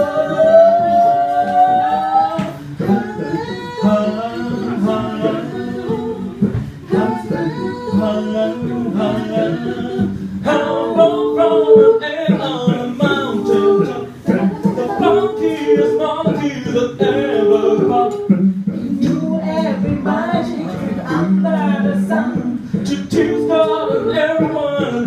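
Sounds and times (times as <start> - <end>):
a cappella group singing: 0.0 - 25.0.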